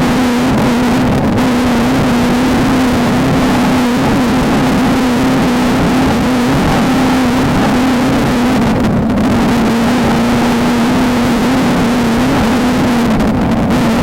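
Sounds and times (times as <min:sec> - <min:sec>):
heavy rushing noise: 0:00.0 - 0:14.0
race car engine at high revs: 0:00.0 - 0:14.0.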